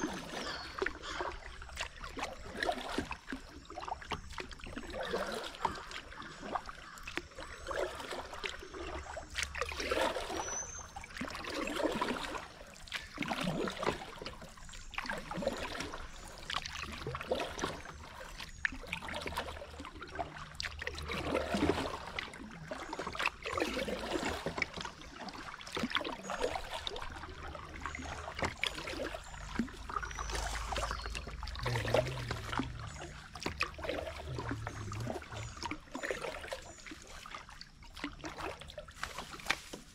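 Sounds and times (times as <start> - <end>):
kayak paddle strokes splashing: 0.0 - 39.9
water trickling along hull: 0.0 - 39.9.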